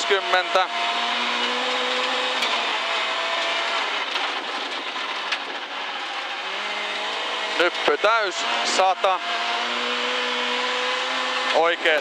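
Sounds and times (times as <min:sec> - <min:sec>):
car engine at speed: 0:00.0 - 0:12.0
tyre and road noise: 0:00.0 - 0:12.0.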